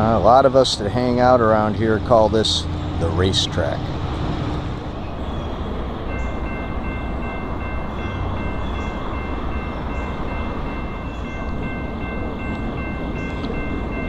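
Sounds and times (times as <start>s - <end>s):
crossing warning bell ringing: 0.0s - 14.0s
low rail traffic rumble: 0.0s - 14.0s.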